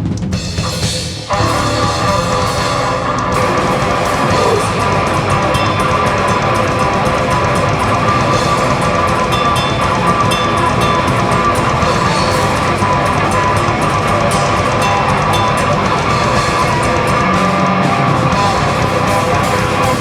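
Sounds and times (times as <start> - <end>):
heavy rock band playing: 0.0 - 20.0.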